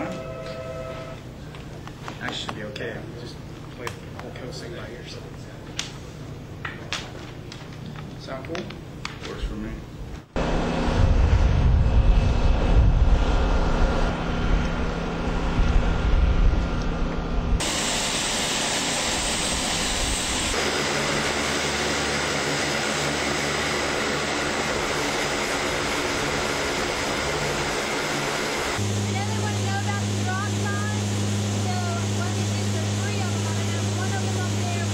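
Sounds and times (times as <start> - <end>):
turboprop engines droning: 0.0 - 34.9.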